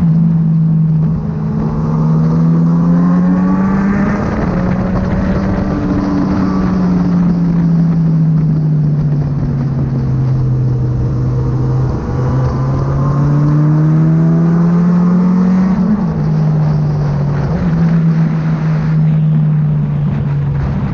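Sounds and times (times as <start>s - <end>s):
motorcycle engine revving: 0.0s - 20.9s
steady rush of noise: 0.0s - 20.9s.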